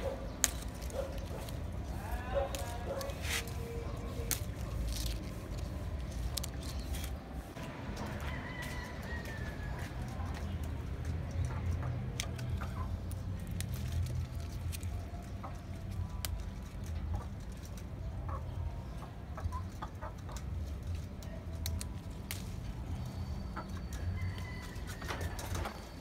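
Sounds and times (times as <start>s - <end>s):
chickens clucking: 0.0s - 13.4s, 14.9s - 26.0s.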